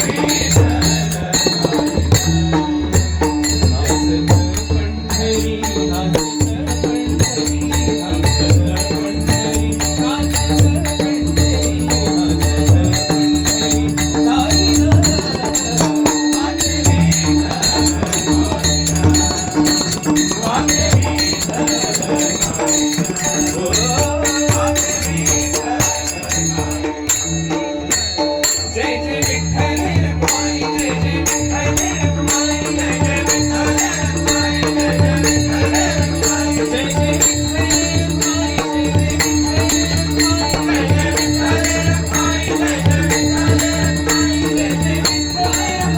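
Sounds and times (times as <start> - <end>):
hand drum beats: 0.0 - 45.9.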